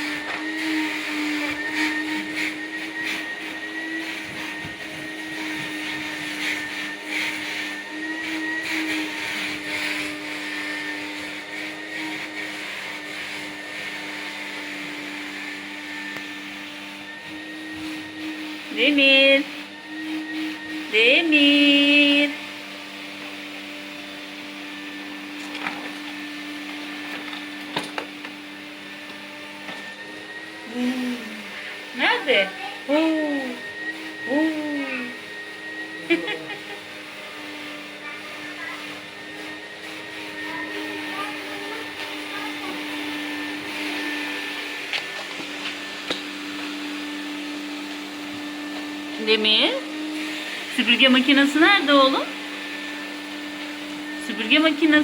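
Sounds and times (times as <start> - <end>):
vacuum cleaner whine: 0.0 - 55.0.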